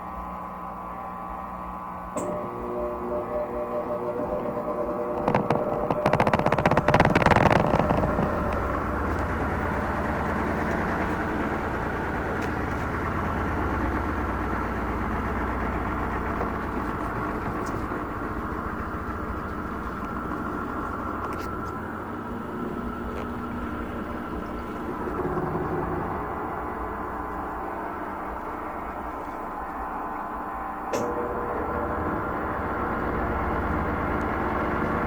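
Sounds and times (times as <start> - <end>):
washing machine hum: 0.0 - 35.0.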